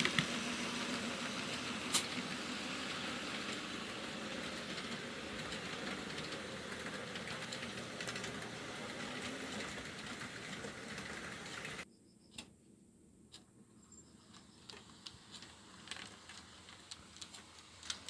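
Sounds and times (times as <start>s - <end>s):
model train rolling rattle: 0.0s - 11.8s, 14.3s - 18.0s.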